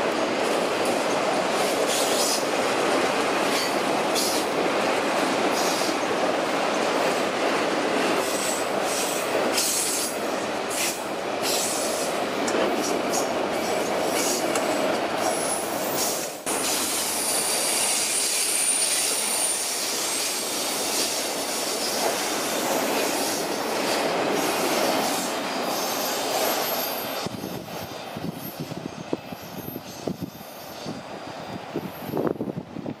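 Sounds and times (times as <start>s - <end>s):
train wheels rumbling and clattering: 0.0s - 33.0s.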